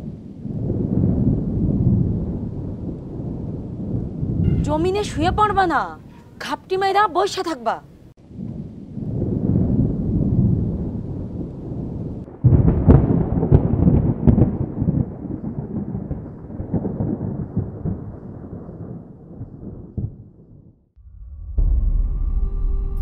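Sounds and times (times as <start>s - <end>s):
loud thunderclap with crackling: 0.0s - 6.1s, 8.2s - 20.9s
thunder rumbling: 0.0s - 23.0s.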